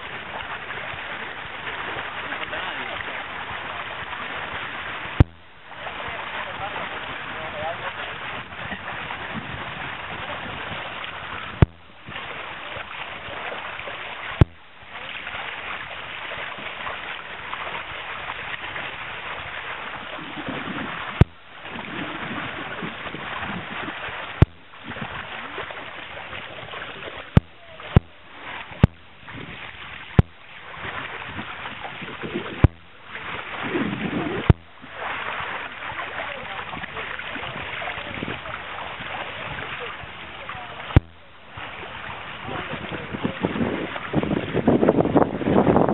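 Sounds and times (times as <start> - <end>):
water rushing along a hull: 0.0 - 45.9.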